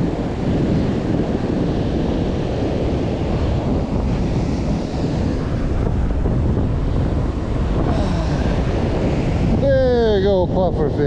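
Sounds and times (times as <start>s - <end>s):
ocean surf breaking: 0.0s - 11.0s
wind noise on microphone: 0.0s - 11.0s.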